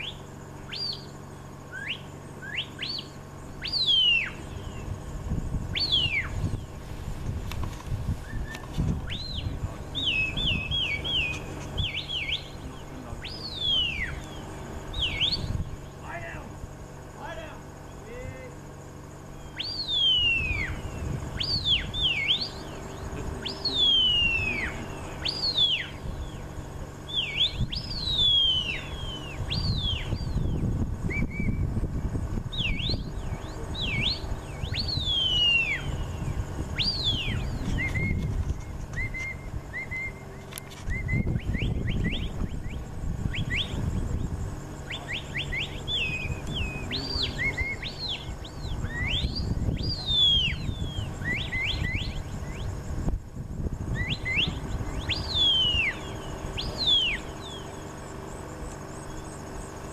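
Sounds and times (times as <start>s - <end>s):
high whistles: 0.0s - 4.9s, 5.7s - 6.7s, 8.2s - 16.4s, 19.4s - 31.7s, 32.5s - 52.9s, 53.9s - 59.6s
wind rumble on microphone: 3.6s - 16.8s, 19.6s - 59.9s.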